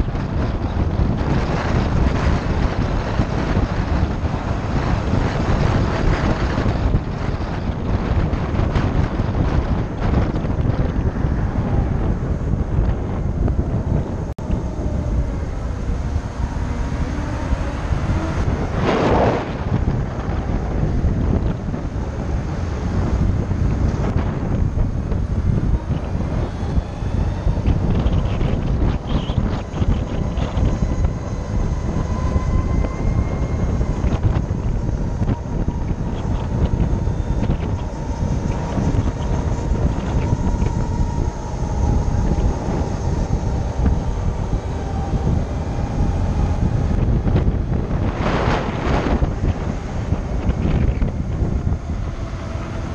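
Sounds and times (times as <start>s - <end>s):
road rumble: 0.0s - 52.9s
wind buffeting microphone: 0.0s - 52.9s
electric motor whine: 1.0s - 52.9s.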